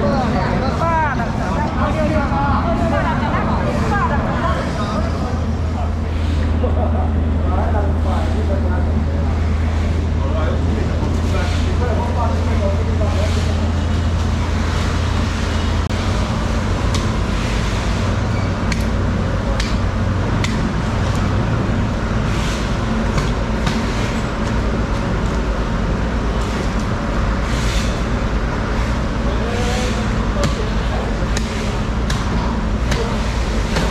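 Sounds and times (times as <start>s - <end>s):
machine rumble: 0.0s - 33.9s.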